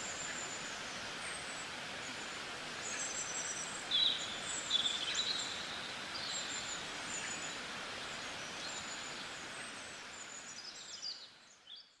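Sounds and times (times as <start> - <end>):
steady background hiss: 0.0 - 11.9.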